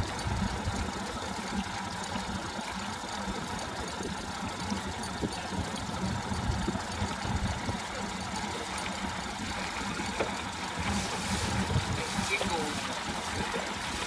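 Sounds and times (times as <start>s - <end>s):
outboard motor idling: 0.0s - 14.0s
wind and water rumble: 0.0s - 14.0s.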